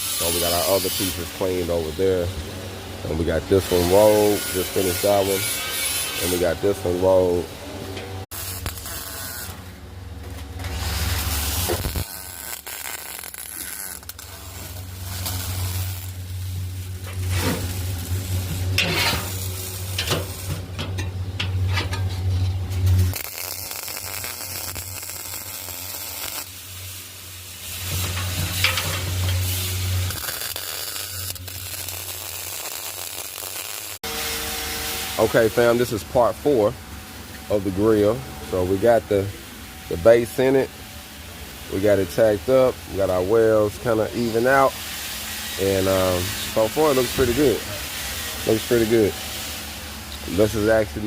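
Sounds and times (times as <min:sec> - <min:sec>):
welding arc crackling: 0:00.0 - 0:02.5, 0:03.4 - 0:07.4, 0:08.3 - 0:20.7, 0:22.8 - 0:36.7, 0:41.7 - 0:51.0
welder low hum: 0:00.0 - 0:51.0.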